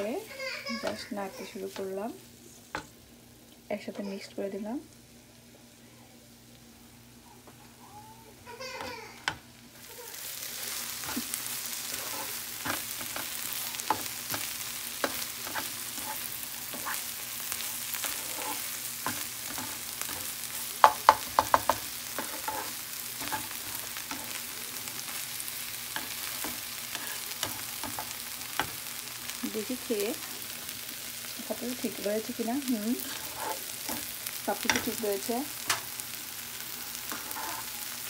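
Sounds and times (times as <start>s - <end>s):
shrimp sizzling in a frying pan: 0.0s - 38.0s.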